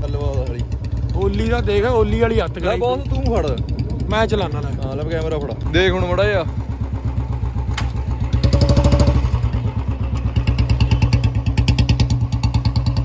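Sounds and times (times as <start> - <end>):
motorcycle engine thumping: 0.0 - 13.0.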